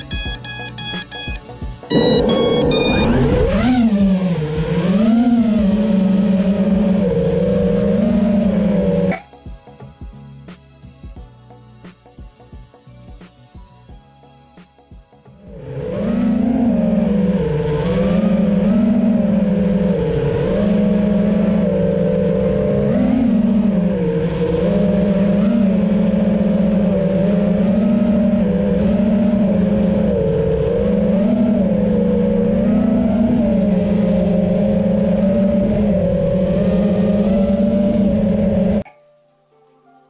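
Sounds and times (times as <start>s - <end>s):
drone motors whining: 0.0s - 9.2s, 15.4s - 38.8s.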